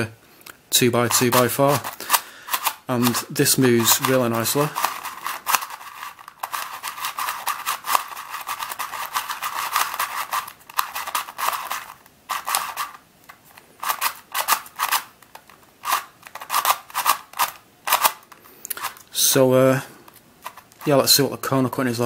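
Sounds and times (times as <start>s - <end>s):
puzzle layers clicking: 1.0s - 19.0s.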